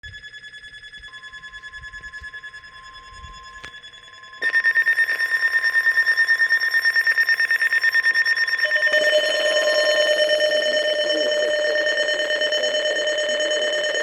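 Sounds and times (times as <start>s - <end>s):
steady warning tone: 0.0s - 14.0s
rapid pulsing alarm beep: 0.1s - 14.0s.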